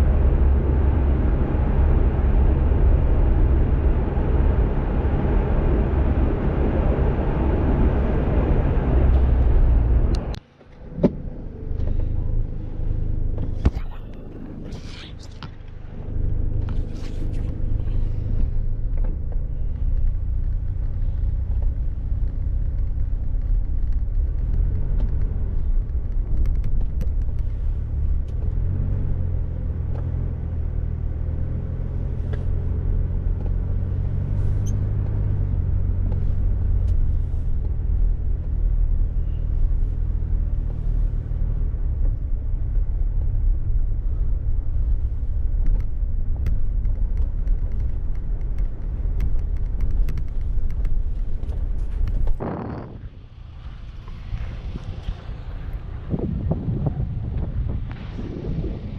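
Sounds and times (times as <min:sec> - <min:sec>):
car driving rumble: 0:00.0 - 0:58.9.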